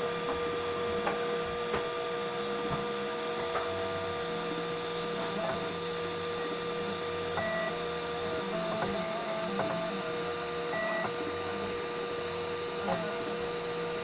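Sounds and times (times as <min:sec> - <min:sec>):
printer stepper motors whining: 0:00.0 - 0:14.0.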